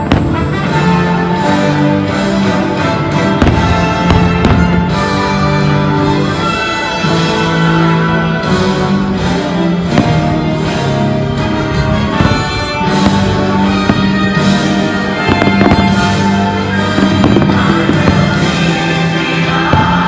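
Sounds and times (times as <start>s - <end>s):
fireworks bursting: 0.0s - 1.8s, 2.4s - 6.9s, 9.0s - 20.0s
soundtrack music: 0.0s - 20.0s.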